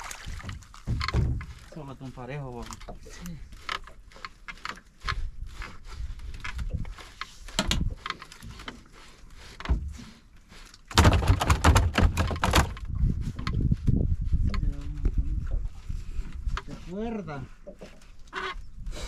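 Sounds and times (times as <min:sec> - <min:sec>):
knocks and thumps on a boat: 0:00.1 - 0:10.2, 0:10.9 - 0:17.0.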